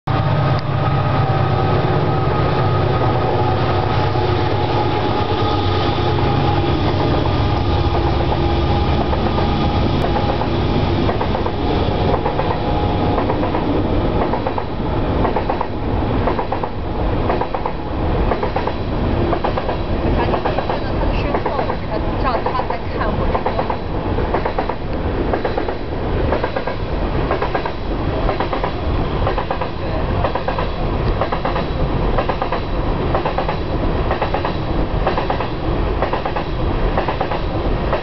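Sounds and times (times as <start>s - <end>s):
train rumbling past: 0.1s - 38.0s
wheels rattling over rails: 6.0s - 38.0s.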